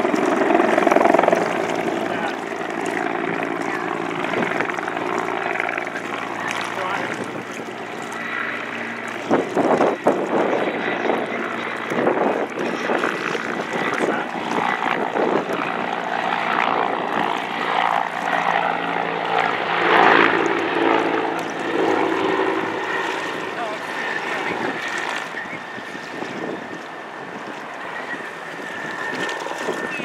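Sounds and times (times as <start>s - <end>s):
helicopter rotor and engine: 0.0s - 30.0s.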